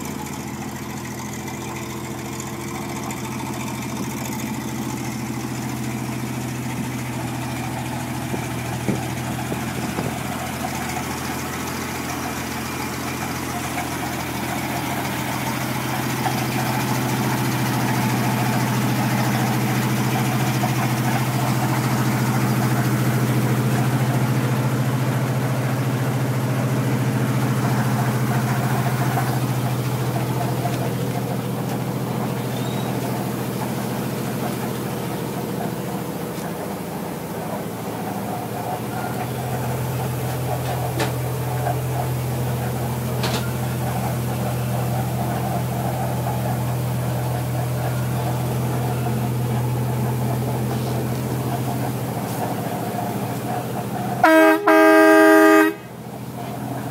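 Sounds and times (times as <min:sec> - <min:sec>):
fire truck engine idling: 0:00.0 - 0:56.9.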